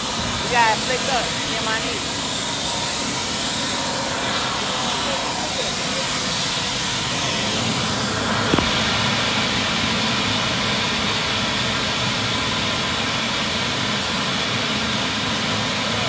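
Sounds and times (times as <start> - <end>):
loud mechanical engine roar: 0.0 - 16.0.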